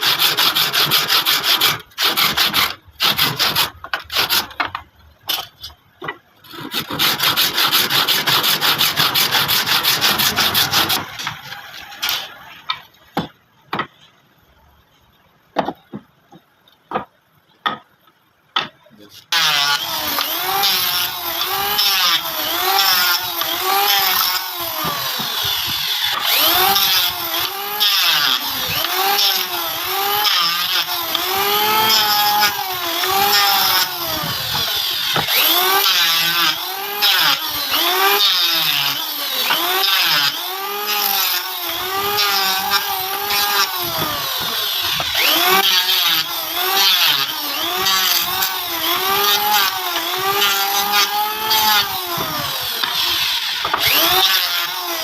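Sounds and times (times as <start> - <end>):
saw cutting wood: 0.0 - 5.8, 6.4 - 13.9, 18.6 - 55.0.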